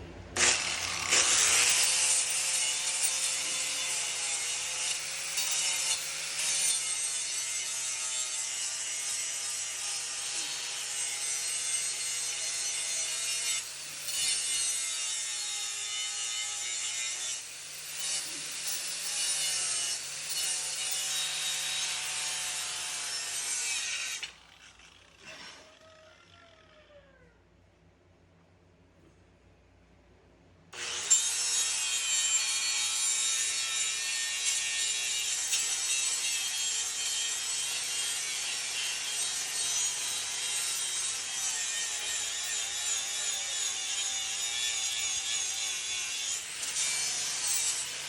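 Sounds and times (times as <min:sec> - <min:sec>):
angle grinder grinding steel: 0:00.4 - 0:25.8, 0:30.8 - 0:48.0.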